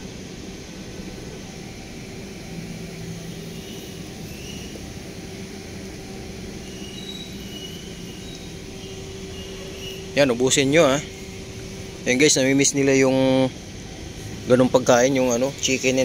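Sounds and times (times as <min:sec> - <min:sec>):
low mechanical hum: 0:00.0 - 0:16.0
whining tone: 0:00.0 - 0:16.0.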